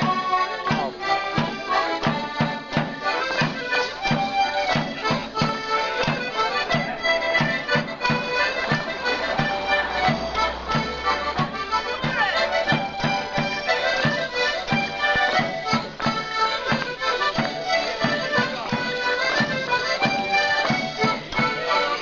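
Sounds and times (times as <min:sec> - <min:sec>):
accordion folk tune: 0:00.0 - 0:22.0
drum beat: 0:00.0 - 0:22.0.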